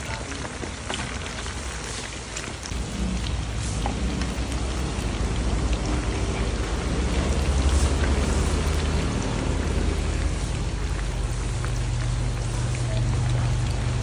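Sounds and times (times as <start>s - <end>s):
meat deep-frying in oil: 0.0s - 14.0s
low rumble: 2.6s - 14.0s.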